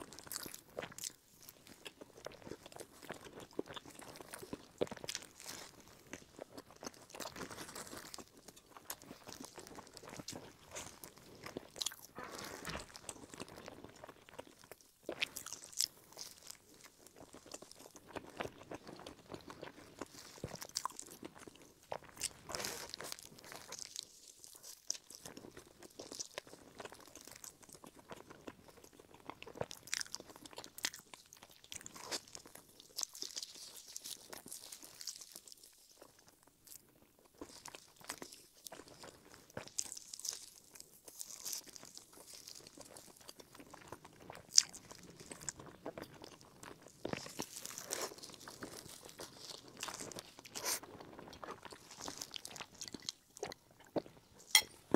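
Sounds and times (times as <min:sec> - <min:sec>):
close-miked chewing bread: 0:00.0 - 0:54.9.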